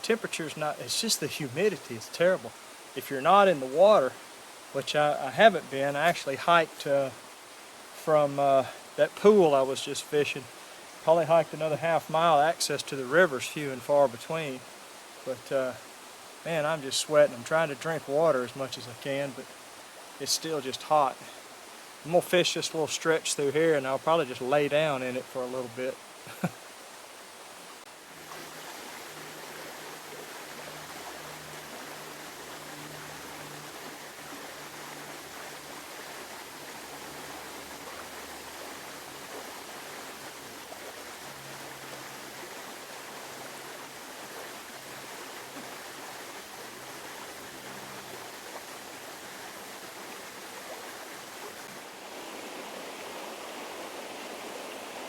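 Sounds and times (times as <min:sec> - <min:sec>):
river water running: 0:00.0 - 0:55.0.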